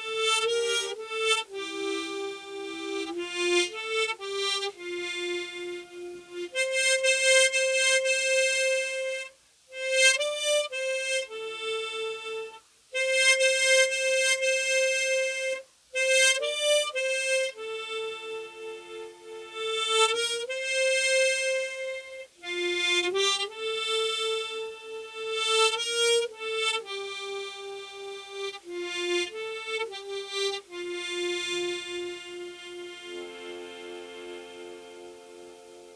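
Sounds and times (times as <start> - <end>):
solo harmonica melody: 0.0 - 35.9.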